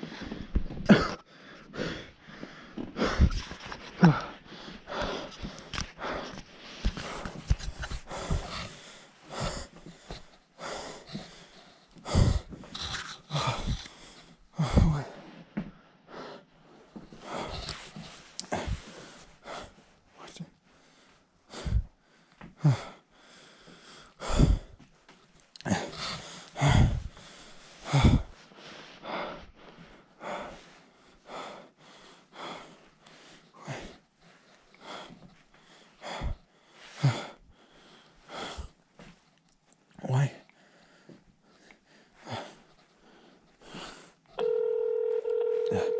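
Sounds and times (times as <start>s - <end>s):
person breathing hard: 0.0s - 24.9s, 25.6s - 39.3s, 40.2s - 44.5s.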